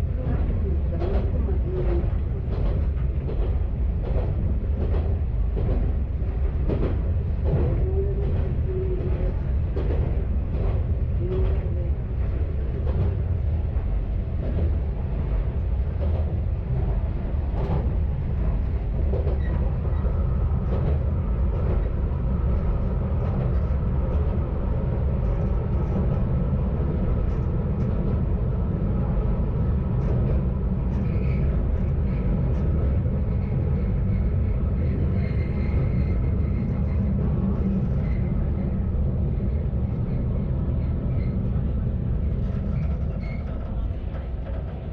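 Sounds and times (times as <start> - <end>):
diesel railcar engine drone: 0.0 - 44.9.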